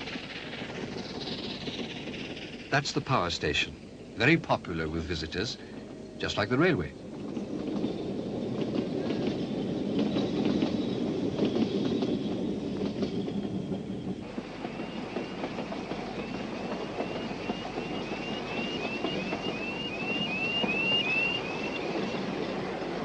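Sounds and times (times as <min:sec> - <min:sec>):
carriages clattering over rail joints: 0:00.0 - 0:23.0
steam train running: 0:00.0 - 0:23.0.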